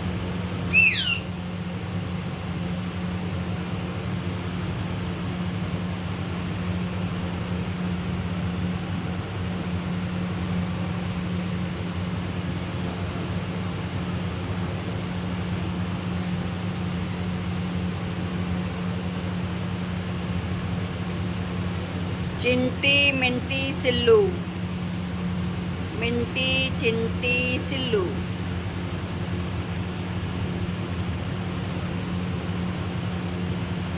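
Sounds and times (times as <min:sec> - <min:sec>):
low electric hum with hiss: 0:00.0 - 0:33.9.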